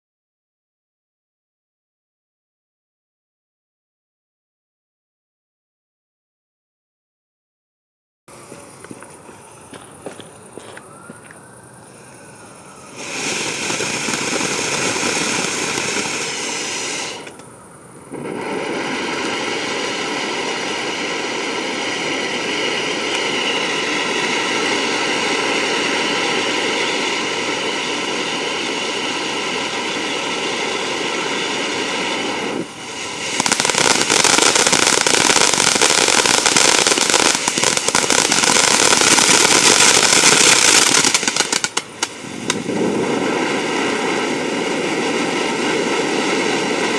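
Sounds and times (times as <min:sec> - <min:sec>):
firework fountain hissing and crackling: 0:08.3 - 0:46.9.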